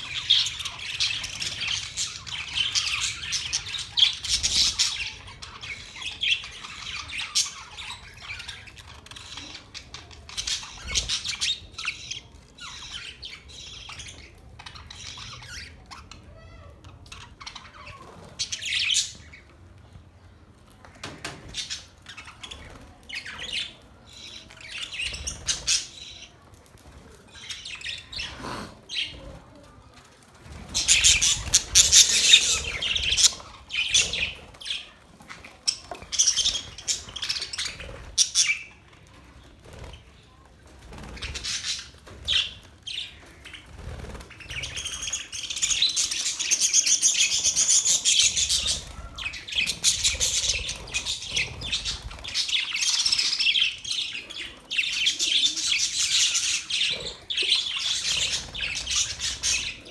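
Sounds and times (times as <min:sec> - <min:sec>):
budgerigars chirping and warbling: 0:00.0 - 0:19.6, 0:21.0 - 0:26.4, 0:27.2 - 0:29.4, 0:30.4 - 0:35.0, 0:35.7 - 0:38.9, 0:39.7 - 0:59.9.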